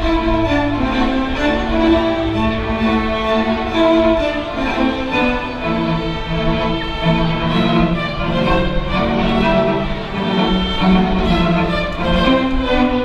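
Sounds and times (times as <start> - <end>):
string orchestra playing: 0.0 - 13.0.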